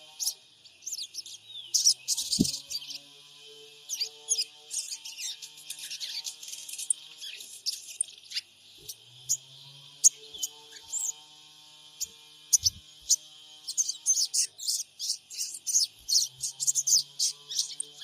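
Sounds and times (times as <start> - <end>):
bird chirping and twittering: 0.0 - 3.1, 3.7 - 11.3, 11.9 - 18.0.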